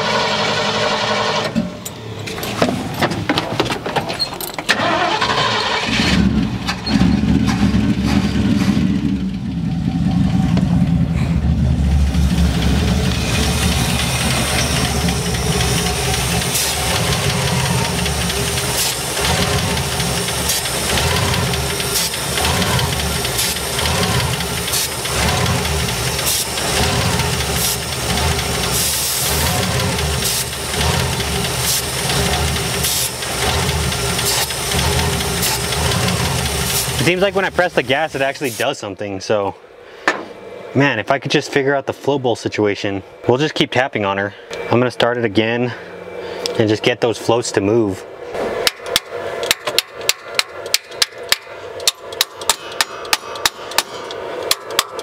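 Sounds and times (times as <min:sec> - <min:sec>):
truck engine cranking: 0:00.0 - 0:38.6, 0:48.3 - 0:55.0
engine running rough: 0:00.0 - 0:38.7, 0:44.5 - 0:55.0.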